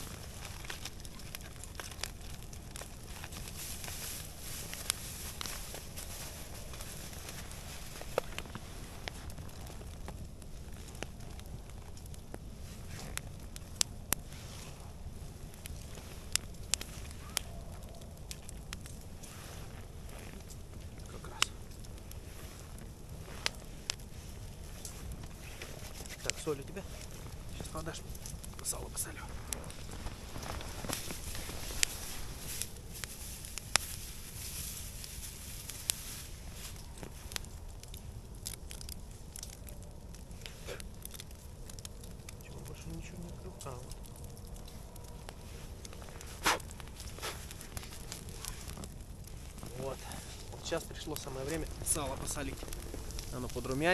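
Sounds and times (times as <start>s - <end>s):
close rustling and handling noise: 0.0s - 13.4s, 14.0s - 37.6s, 39.8s - 53.9s
campfire crackling: 0.0s - 53.9s
fire pops: 0.0s - 53.9s.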